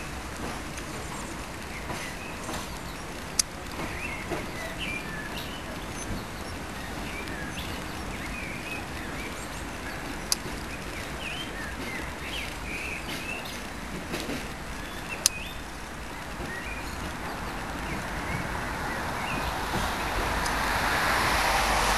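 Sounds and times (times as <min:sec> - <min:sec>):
small birds chirping: 0:00.0 - 0:21.4
low background noise: 0:00.0 - 0:21.9.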